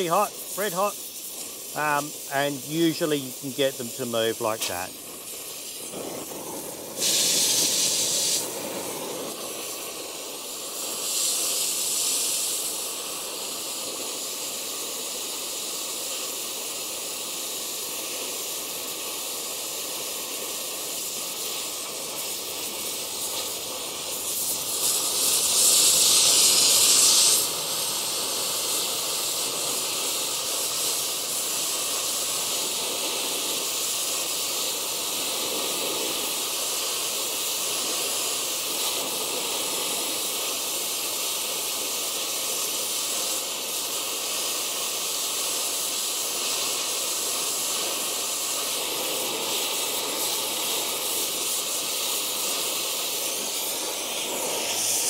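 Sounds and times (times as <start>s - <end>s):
gas torch flame hissing: 0.0s - 55.0s.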